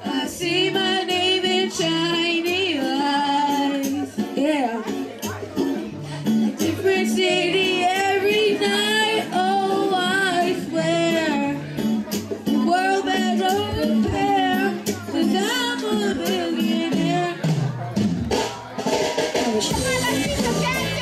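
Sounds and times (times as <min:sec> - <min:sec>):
young voices singing pop song: 0:00.0 - 0:18.4, 0:19.2 - 0:21.0
backing track with bass line: 0:00.0 - 0:21.0.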